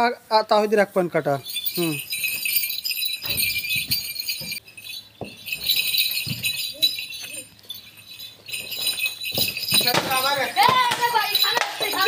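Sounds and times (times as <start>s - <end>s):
ankle bells jingling: 0.3s - 12.0s.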